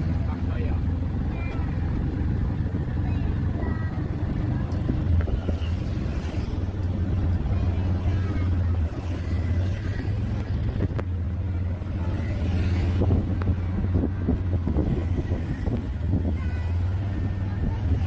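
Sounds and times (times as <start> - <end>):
road noise: 0.0 - 18.0
vehicle engine running: 0.0 - 18.0.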